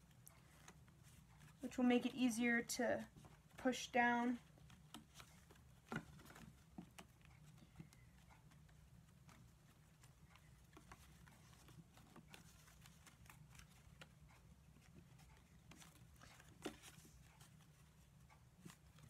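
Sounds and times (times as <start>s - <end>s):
low steady hum: 0.0s - 19.0s
basket reeds clicking and rustling: 3.0s - 19.0s.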